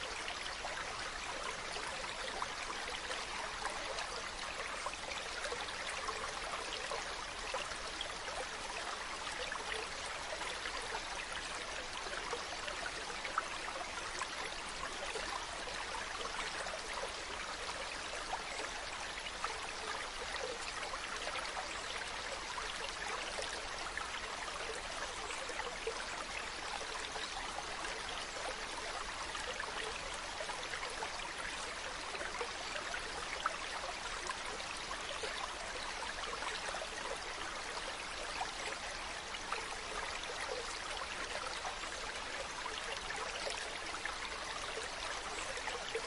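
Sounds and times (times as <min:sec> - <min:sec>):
stream running: 0:00.0 - 0:46.0.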